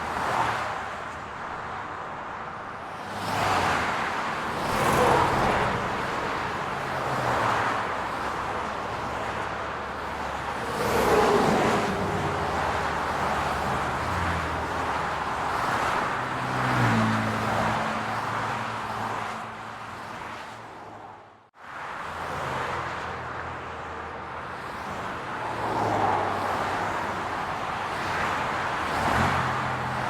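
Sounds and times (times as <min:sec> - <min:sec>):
hum of engines and tyres: 0:00.0 - 0:30.0
cars driving past: 0:03.0 - 0:23.9, 0:24.5 - 0:30.0.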